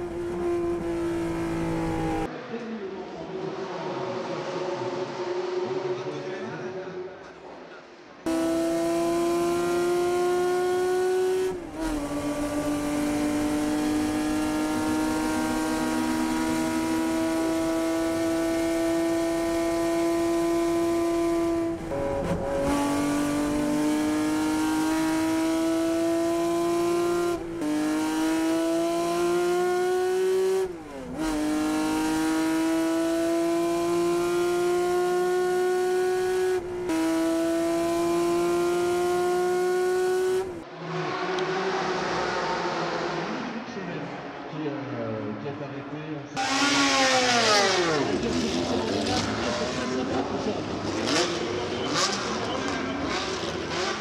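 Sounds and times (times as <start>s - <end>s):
racing car engine at full throttle: 0.0s - 2.3s, 8.2s - 44.5s, 46.4s - 54.0s.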